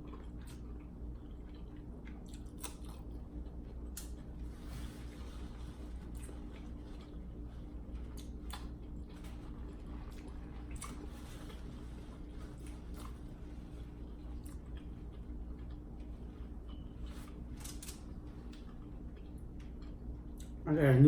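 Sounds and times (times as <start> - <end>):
chewing and eating: 0.0 - 20.6
steady low hum: 0.0 - 21.0.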